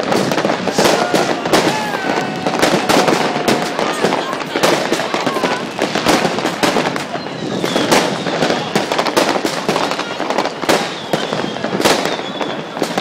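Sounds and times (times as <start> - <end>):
firecrackers crackling and banging: 0.0 - 13.0
firework whistle: 0.0 - 13.0.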